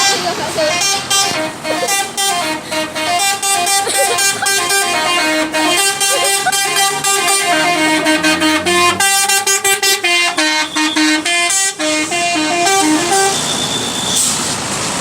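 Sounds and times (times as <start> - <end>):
bus musical horn playing tune: 0.0 - 14.3.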